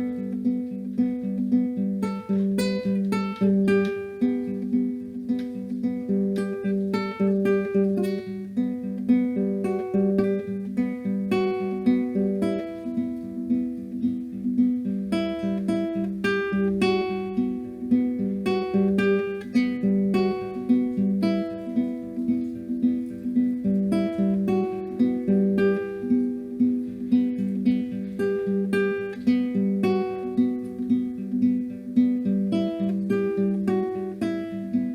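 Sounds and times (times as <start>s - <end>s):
finger-picked acoustic guitar: 0.0s - 34.9s.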